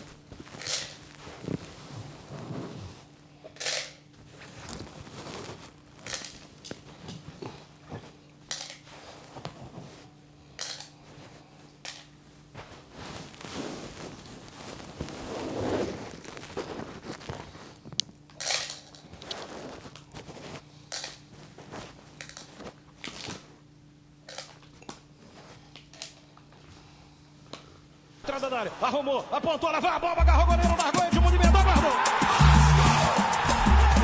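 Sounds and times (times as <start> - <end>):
low steady hum: 0.0 - 30.6.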